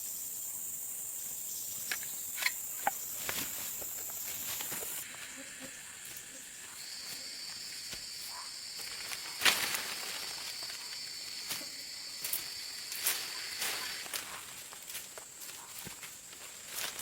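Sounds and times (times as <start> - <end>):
lower insect tone: 0.0 - 17.0.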